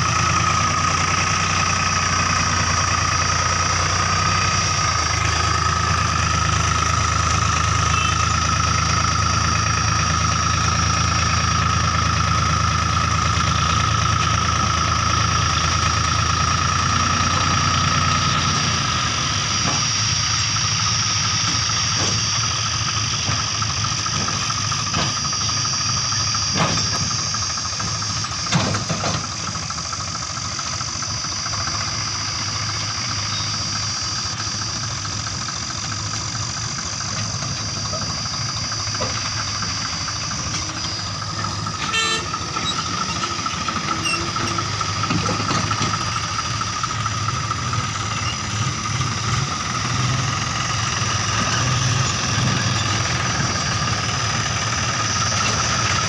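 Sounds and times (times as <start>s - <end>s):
high whine: 0.0s - 56.0s
tractor engine idling: 0.0s - 56.0s.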